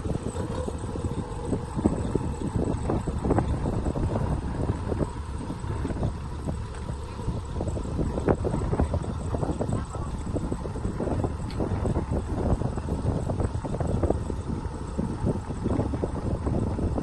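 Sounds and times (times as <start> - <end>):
heavy farm machinery rumbling: 0.0 - 17.0
wind buffeting microphone: 0.0 - 17.0.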